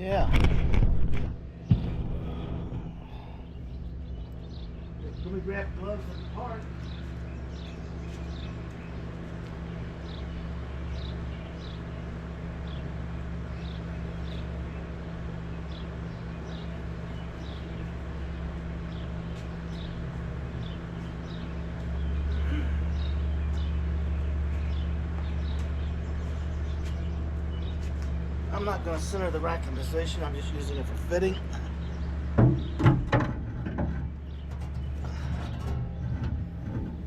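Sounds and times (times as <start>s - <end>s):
low mechanical hum: 0.0s - 37.0s
bird chirping: 1.5s - 33.2s, 33.9s - 37.0s.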